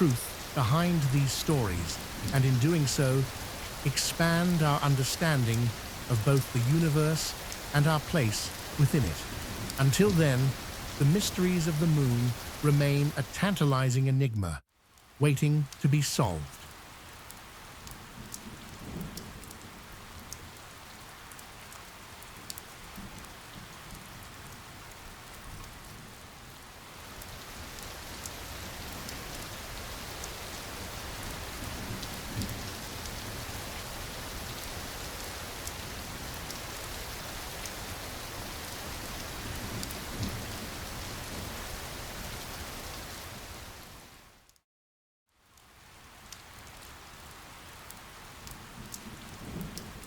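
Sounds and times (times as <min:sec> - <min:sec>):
steady rainfall: 0:00.0 - 0:44.6, 0:45.3 - 0:50.0.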